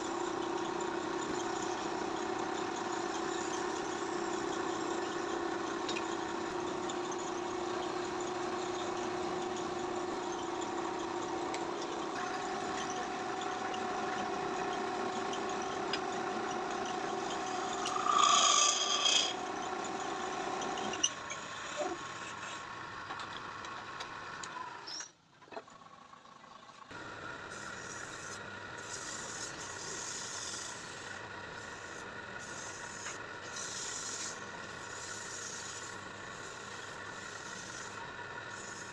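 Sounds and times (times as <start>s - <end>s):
small motor humming: 0.0s - 23.7s, 26.9s - 38.9s.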